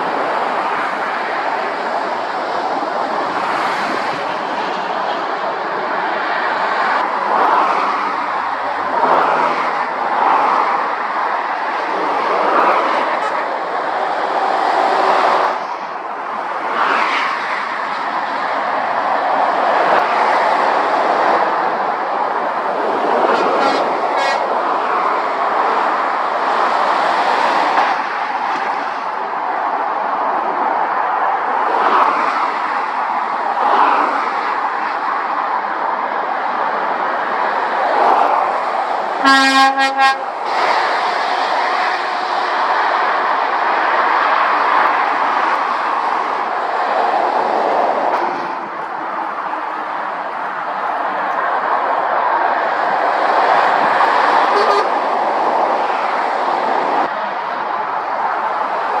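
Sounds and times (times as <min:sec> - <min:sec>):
motorway traffic passing: 0:00.0 - 0:59.0.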